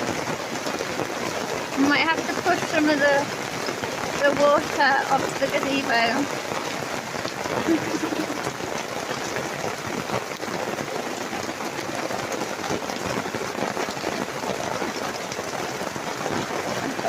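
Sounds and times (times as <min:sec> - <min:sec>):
heavy rain on canopy: 0:00.0 - 0:17.0.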